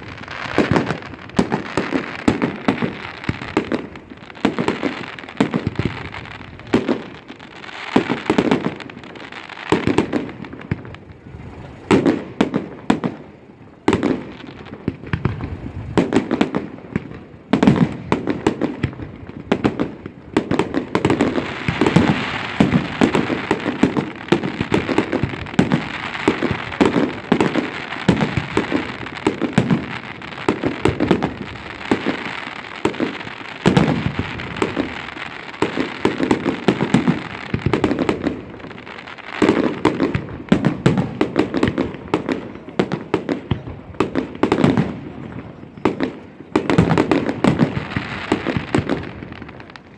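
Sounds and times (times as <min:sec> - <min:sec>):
firework bangs: 0:00.0 - 0:49.9
firework crackling: 0:00.0 - 0:49.9.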